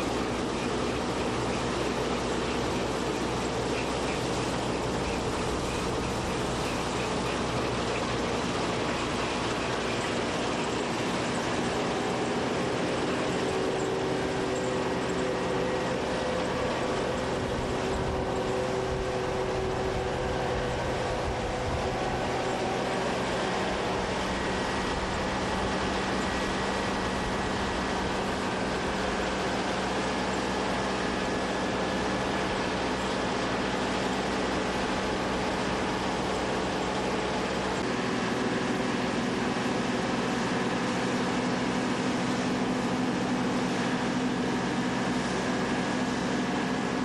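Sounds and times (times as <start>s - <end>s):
combine harvester running: 0.0s - 47.0s.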